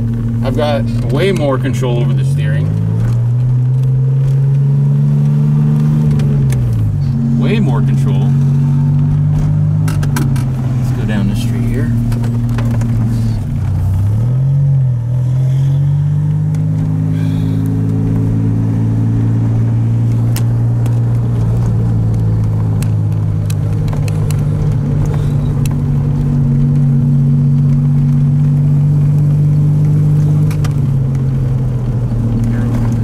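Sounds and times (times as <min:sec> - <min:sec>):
car engine heard from inside: 0:00.0 - 0:33.0.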